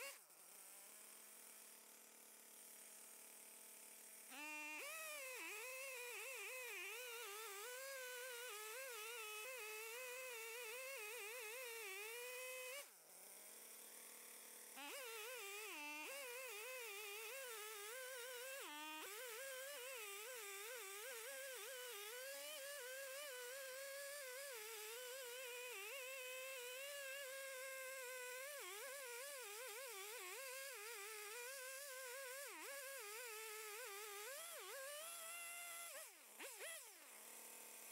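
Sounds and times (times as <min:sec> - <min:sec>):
chainsaw cutting log: 0:00.0 - 0:37.9.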